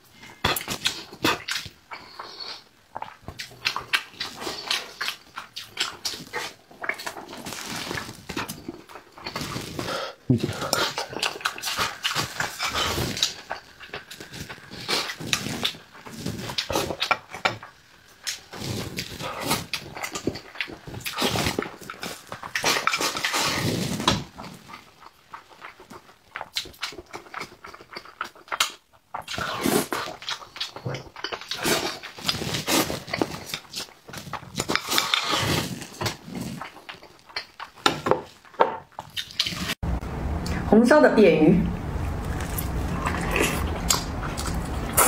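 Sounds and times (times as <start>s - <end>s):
slurping: 0.2s - 38.0s, 41.6s - 45.0s
chewing and lip-smacking: 0.2s - 39.8s, 41.8s - 45.0s.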